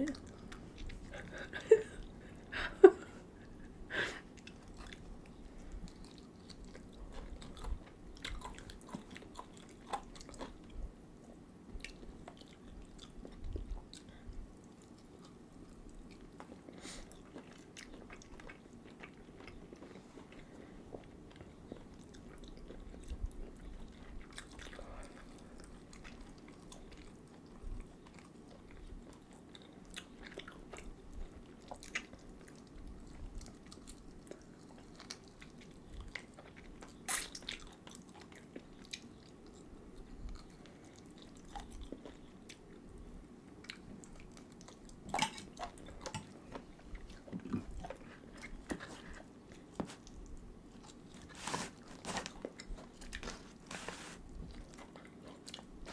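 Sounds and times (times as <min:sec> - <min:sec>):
low room hum: 0:00.0 - 0:55.9
people chewing food: 0:00.0 - 0:55.9.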